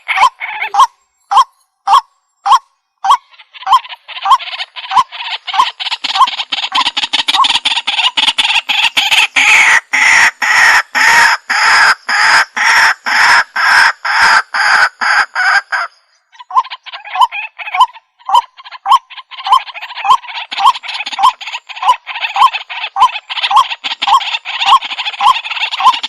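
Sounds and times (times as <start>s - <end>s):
waterhen harsh croaking calls: 0.0s - 26.0s.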